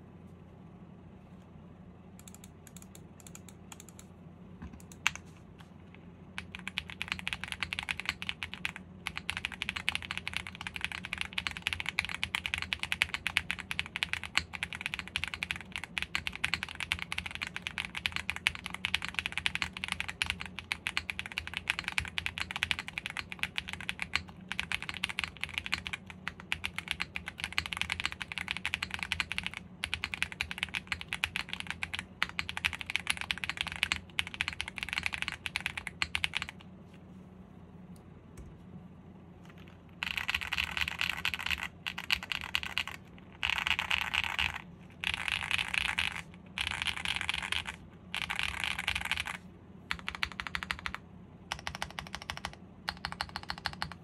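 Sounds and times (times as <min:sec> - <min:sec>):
mechanical keyboard typing: 0:02.2 - 0:05.4, 0:06.4 - 0:36.6, 0:39.4 - 0:54.0.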